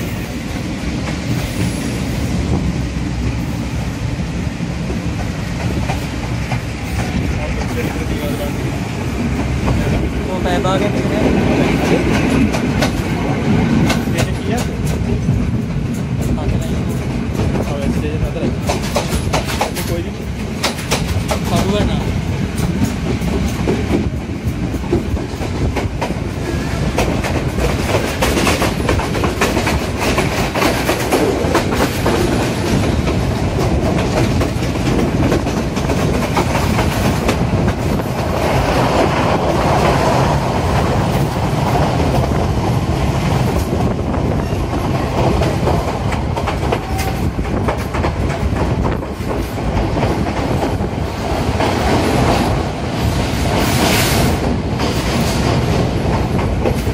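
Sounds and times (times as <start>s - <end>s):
train rumbling on rails: 0.0s - 56.9s.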